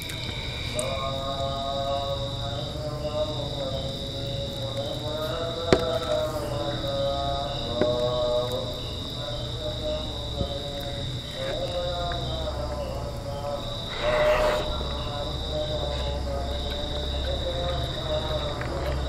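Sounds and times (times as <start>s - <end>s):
insect chirps: 0.0s - 19.0s
insects trilling: 0.0s - 19.0s.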